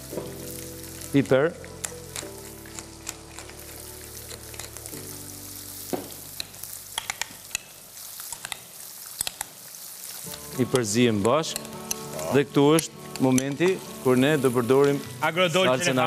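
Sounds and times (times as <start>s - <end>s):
fish sizzling in pan: 0.0s - 16.0s.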